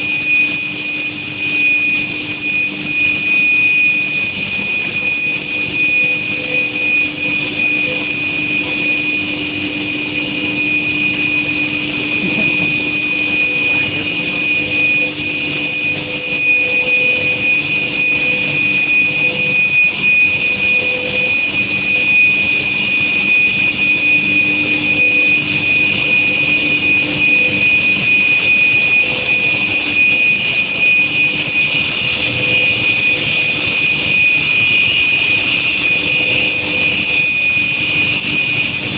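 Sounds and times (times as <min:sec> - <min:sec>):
induction furnace whine: 0:00.0 - 0:38.9.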